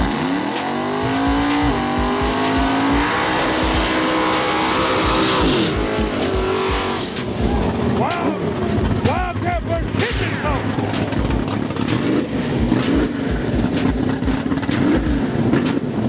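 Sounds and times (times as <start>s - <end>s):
drag race car engines revving: 0.0s - 16.0s
tires hissing: 0.0s - 16.0s.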